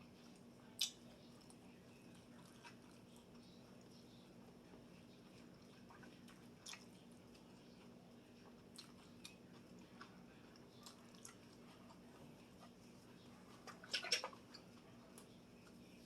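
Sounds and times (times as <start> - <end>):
chewing soft food: 0.0 - 16.0
low steady hum: 0.0 - 16.0.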